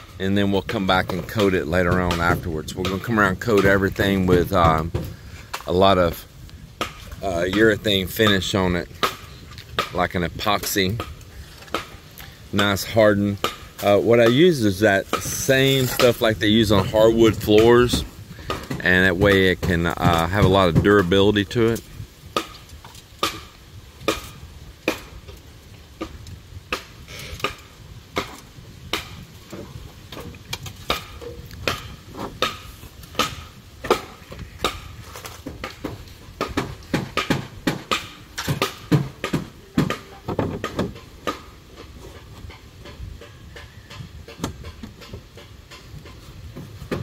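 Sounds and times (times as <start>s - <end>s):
hammering on bamboo poles: 0.0s - 47.0s.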